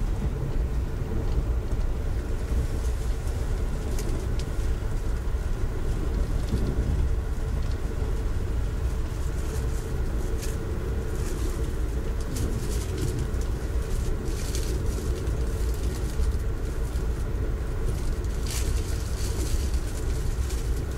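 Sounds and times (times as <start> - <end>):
train rumbling inside coach: 0.0 - 20.9.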